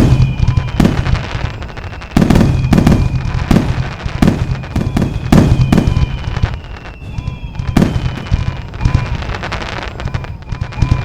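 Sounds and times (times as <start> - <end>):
firework crackling: 0.0 - 11.0
firework shells booming: 0.0 - 11.0.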